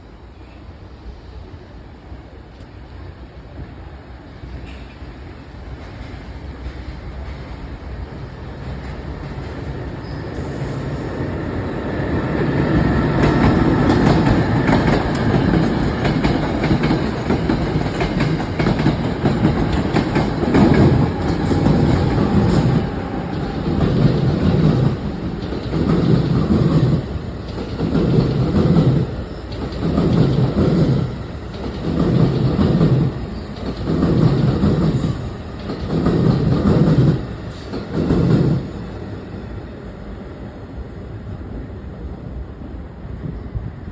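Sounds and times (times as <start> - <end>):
train rumbling and clacking: 1.2 - 43.9.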